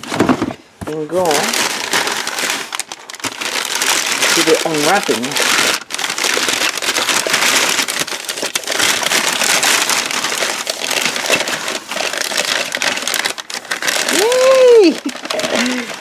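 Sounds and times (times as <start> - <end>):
packing paper crinkling: 0.0 - 16.0.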